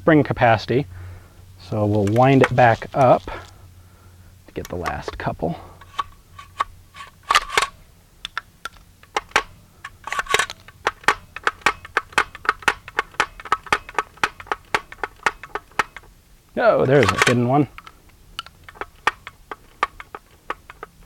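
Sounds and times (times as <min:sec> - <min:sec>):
handling rustles: 0:01.6 - 0:03.7, 0:04.5 - 0:21.0
sharp metallic clicks: 0:01.7 - 0:03.6, 0:04.5 - 0:16.2, 0:16.9 - 0:21.0.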